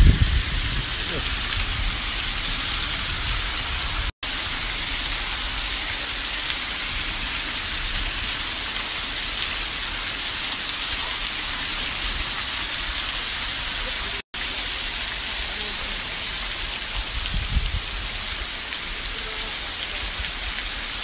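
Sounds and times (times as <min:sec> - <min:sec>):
rain falling on rock: 0:00.0 - 0:21.0.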